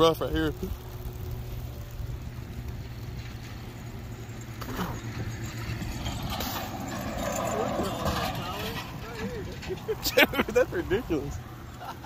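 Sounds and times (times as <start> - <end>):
tyres rolling on pavement: 0.0 - 12.0
wind rumble on microphone: 0.2 - 11.5.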